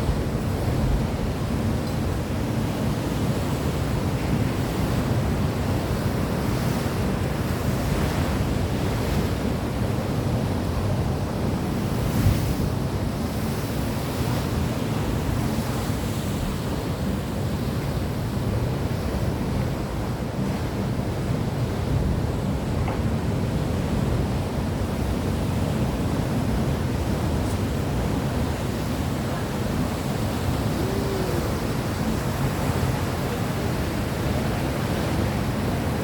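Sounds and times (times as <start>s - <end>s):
sea surf: 0.0s - 36.0s.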